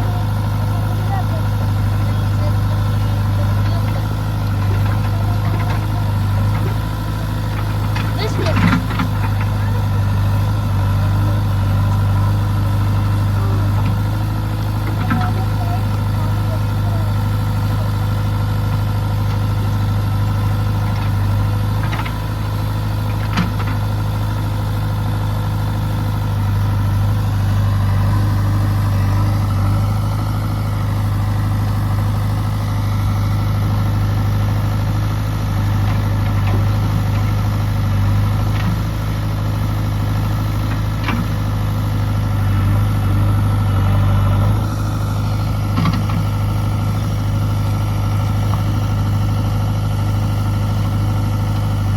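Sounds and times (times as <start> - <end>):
diesel engine running steadily: 0.0 - 51.9.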